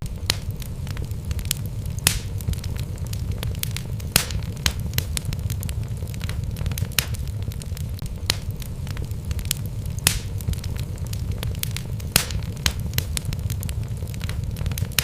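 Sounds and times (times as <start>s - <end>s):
logs crackling and popping: 0.0s - 15.0s
wood fire rumbling: 0.0s - 15.0s.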